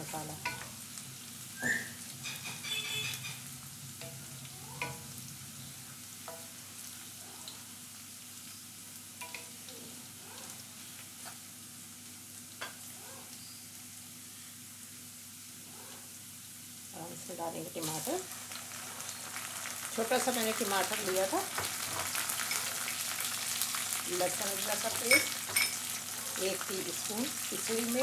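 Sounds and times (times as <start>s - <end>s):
onions sizzling in oil: 0.0s - 28.0s.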